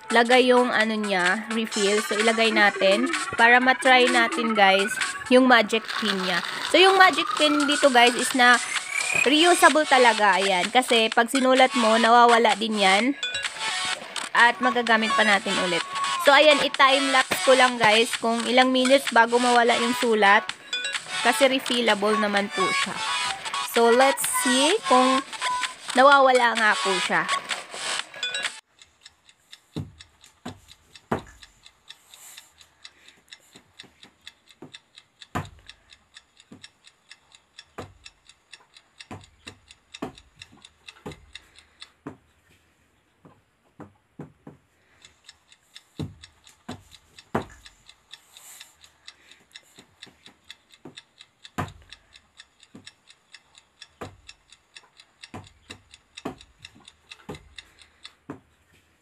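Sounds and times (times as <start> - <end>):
irregular clicking: 0.0 - 59.0.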